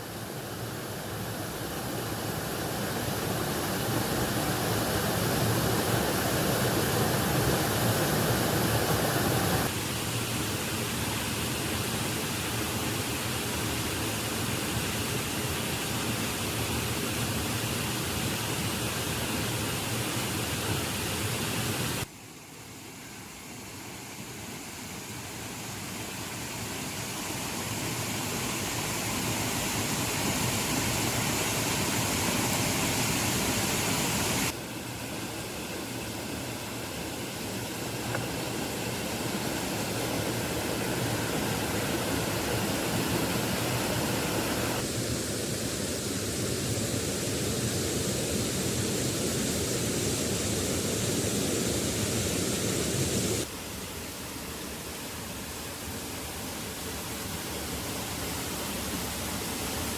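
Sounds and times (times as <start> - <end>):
running water rushing: 0.0 - 22.1, 23.3 - 59.9.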